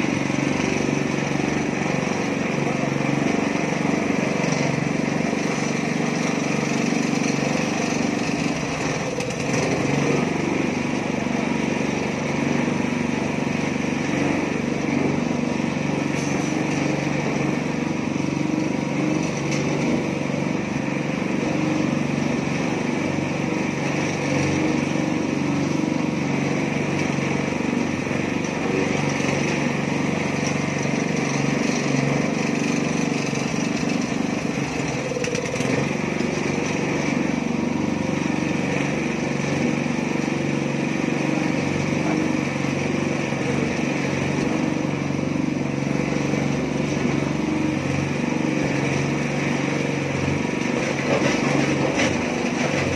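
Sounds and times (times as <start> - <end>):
small petrol engine running: 0.0 - 52.9.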